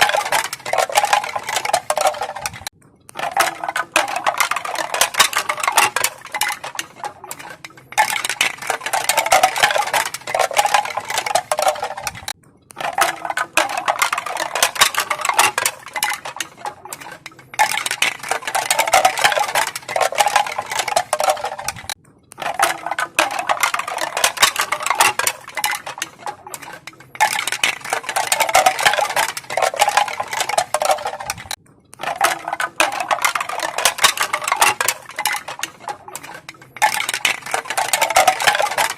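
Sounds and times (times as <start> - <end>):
bamboo pieces clacking together: 0.0 - 38.9.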